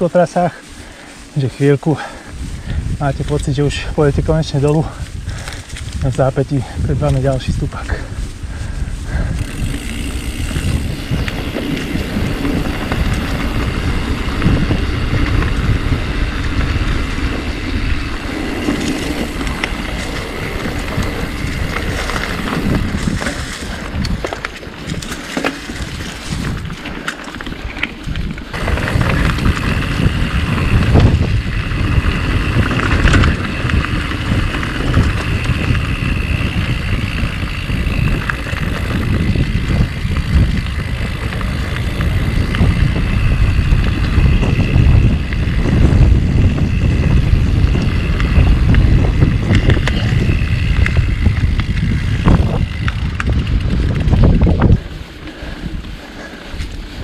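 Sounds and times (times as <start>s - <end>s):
bike rattling and knocking: 0.0s - 57.0s
bike tyres rolling over dirt and stones: 0.0s - 57.0s
wind rumble on microphone: 0.0s - 57.0s.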